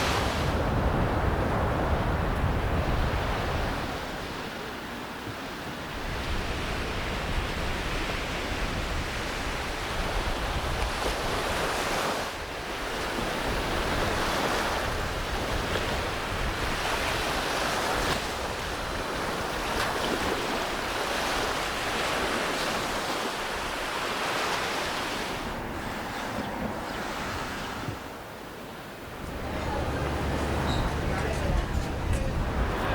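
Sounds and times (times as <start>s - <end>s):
wind rumbling on microphone: 0.0s - 28.4s, 29.0s - 32.9s
sea surf breaking on beach: 0.0s - 32.9s.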